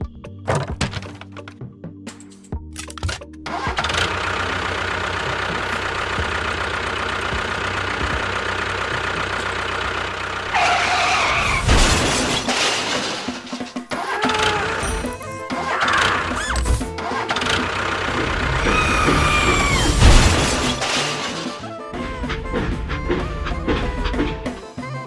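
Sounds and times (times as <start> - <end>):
background music: 0.0 - 8.4, 13.1 - 25.0
vehicle engine humming: 0.5 - 25.0.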